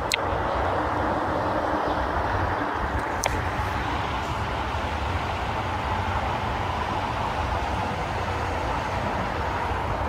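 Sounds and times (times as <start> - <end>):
traffic rumbling over bridge: 0.0 - 10.0.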